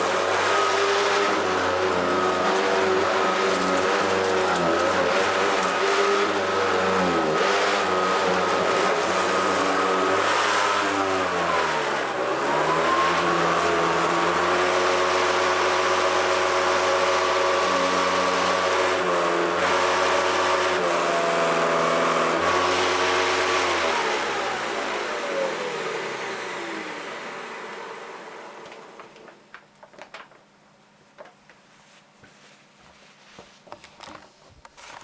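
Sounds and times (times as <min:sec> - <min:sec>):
upright vacuum cleaner running: 0:00.0 - 0:29.3.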